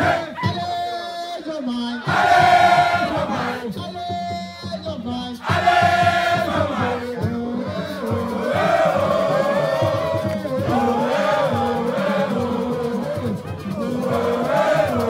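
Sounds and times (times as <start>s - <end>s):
crowd chanting in unison: 0.0s - 0.6s, 1.4s - 3.8s, 5.4s - 15.0s.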